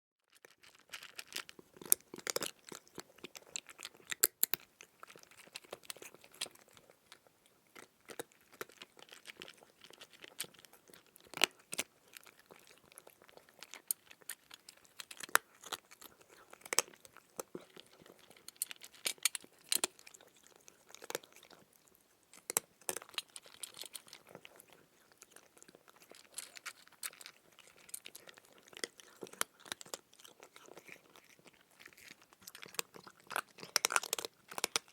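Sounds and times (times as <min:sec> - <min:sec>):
crunchy food being chewed: 0:00.2 - 0:34.9.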